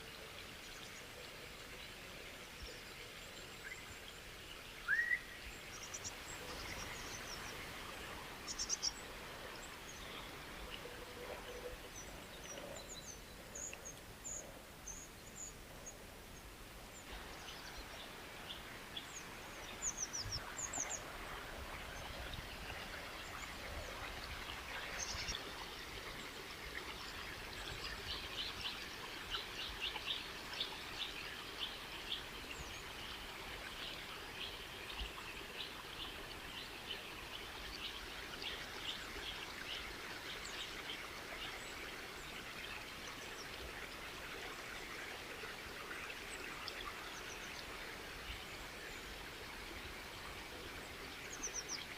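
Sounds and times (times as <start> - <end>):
water flowing: 0.0 - 15.7, 16.6 - 51.9.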